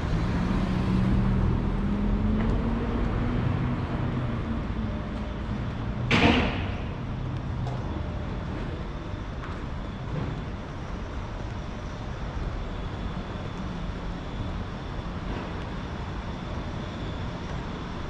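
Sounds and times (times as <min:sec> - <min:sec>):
low engine hum: 0:00.0 - 0:18.0
road noise: 0:00.0 - 0:18.0.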